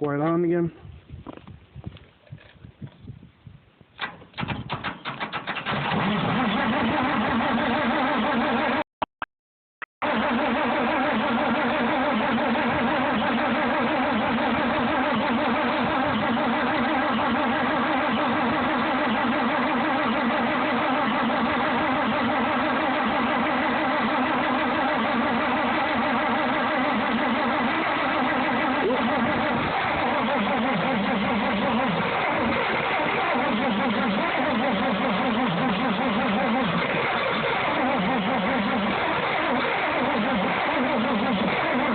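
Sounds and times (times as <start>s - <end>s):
tractor engine running: 3.8s - 8.8s, 10.0s - 41.9s.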